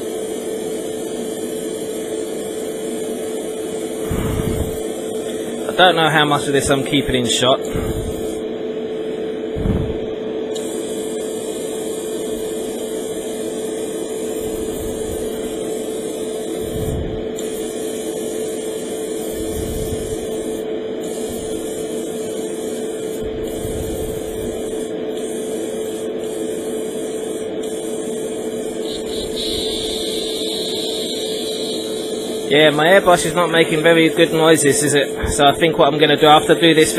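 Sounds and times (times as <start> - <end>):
motor hum: 0.0 - 35.6
airbrush hissing: 0.0 - 36.9.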